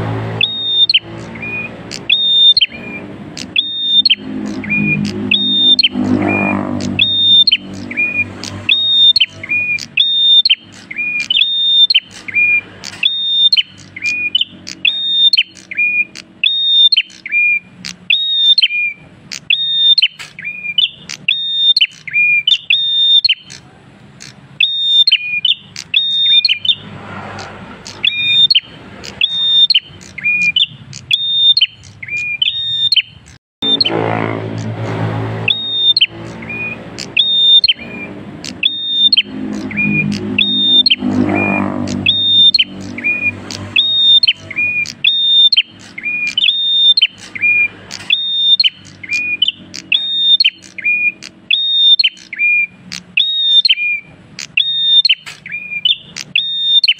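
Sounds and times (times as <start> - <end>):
bird whistling song: 0.3 - 56.9.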